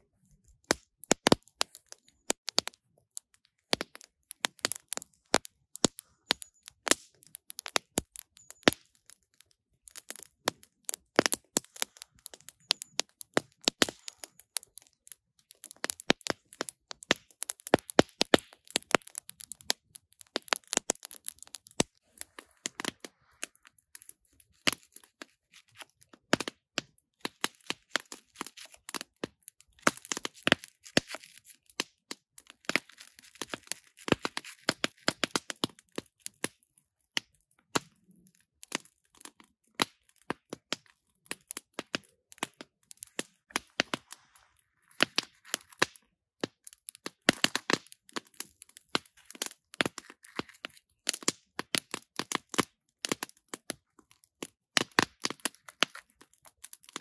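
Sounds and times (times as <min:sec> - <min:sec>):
wood fire crackling: 0:00.4 - 0:57.0.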